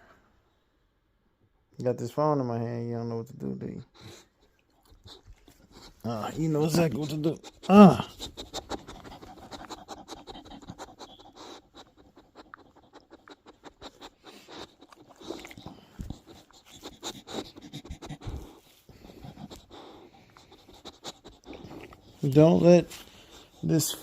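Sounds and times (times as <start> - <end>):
puppy panting: 3.9 - 24.0.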